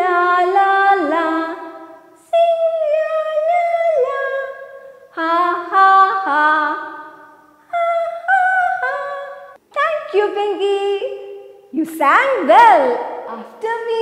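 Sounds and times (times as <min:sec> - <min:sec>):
woman singing unaccompanied: 0:00.0 - 0:14.0.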